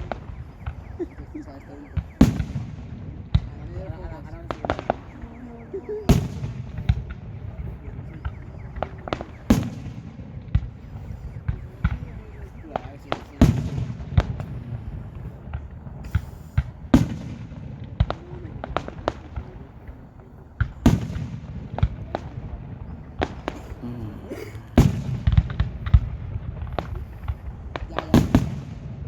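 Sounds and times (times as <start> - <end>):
firework bangs and crackles: 0.0 - 29.0
heavy firework booms: 0.0 - 29.0.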